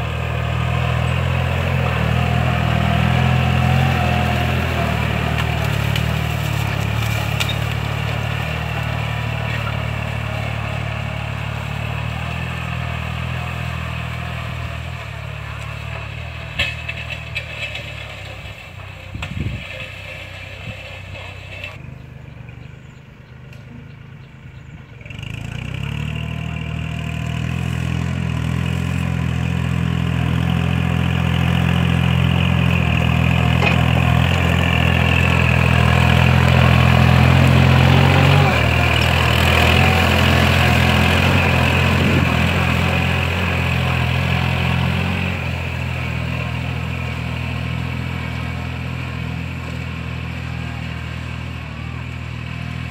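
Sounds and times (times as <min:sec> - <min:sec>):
tractor diesel engine: 0:00.0 - 0:52.9.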